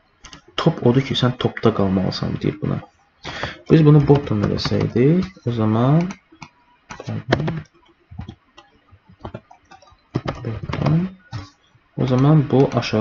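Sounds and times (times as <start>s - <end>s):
computer keyboard typing: 2.4s - 13.0s.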